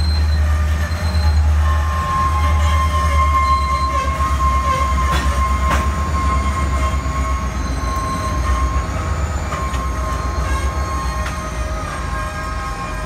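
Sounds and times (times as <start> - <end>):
diesel locomotive engine rumble: 0.0 - 13.0
high-pitched wheel squeal: 0.0 - 13.0.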